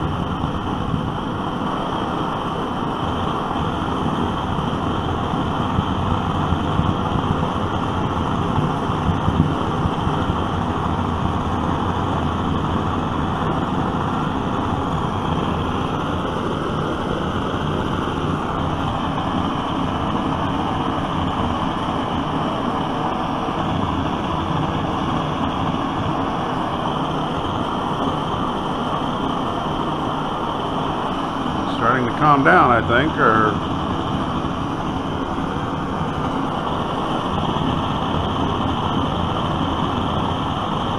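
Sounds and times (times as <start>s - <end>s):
blowtorch rushing: 0.0s - 40.9s.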